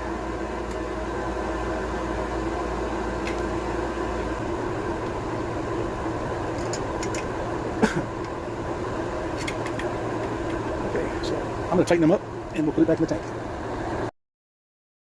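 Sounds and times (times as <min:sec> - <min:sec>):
machine hum: 0:00.0 - 0:14.1.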